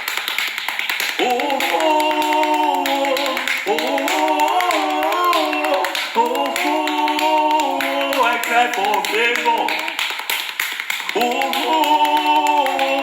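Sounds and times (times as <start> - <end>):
quick percussive taps: 0.0 - 13.0
voices singing long held notes: 1.2 - 10.0, 11.1 - 13.0.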